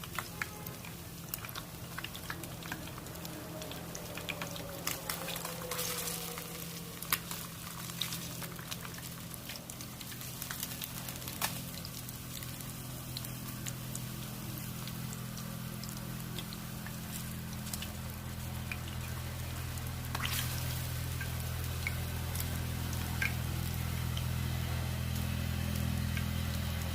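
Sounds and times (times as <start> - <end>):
fish frying in hot oil: 0.0 - 26.9
steady low hum: 1.0 - 26.9.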